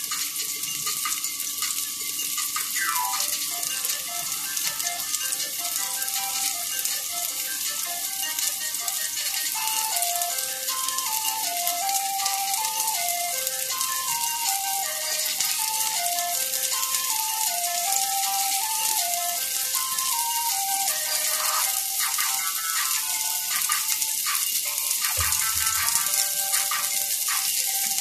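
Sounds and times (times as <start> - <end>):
food sizzling in a wok: 0.0 - 28.0
plinking background music: 0.0 - 28.0.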